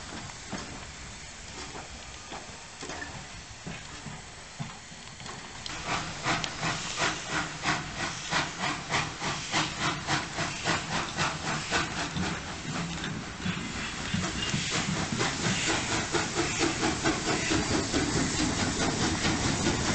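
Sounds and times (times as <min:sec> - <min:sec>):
steam locomotive hissing: 0:00.0 - 0:19.9.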